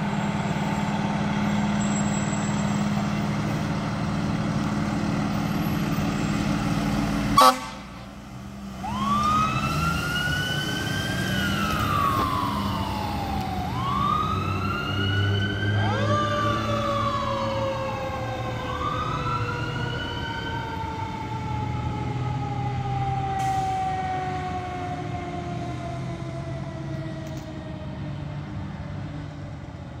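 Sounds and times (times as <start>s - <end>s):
fire truck sirens wailing: 0.0s - 30.0s.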